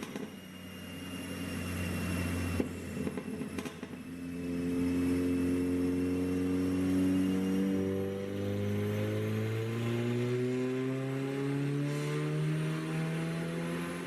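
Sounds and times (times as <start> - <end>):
car engine droning on a dyno: 0.0 - 14.0.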